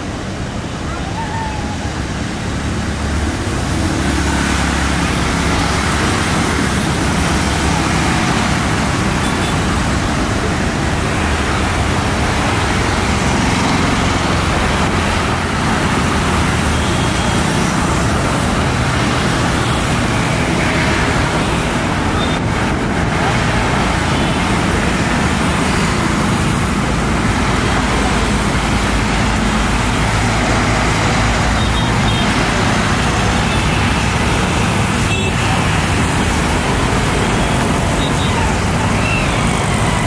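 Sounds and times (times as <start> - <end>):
jet engines roaring: 1.6 - 40.0.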